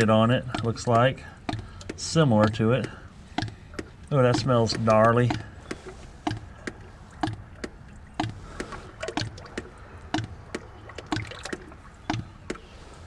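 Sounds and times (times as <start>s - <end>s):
sharp ticks: 0.0s - 12.6s.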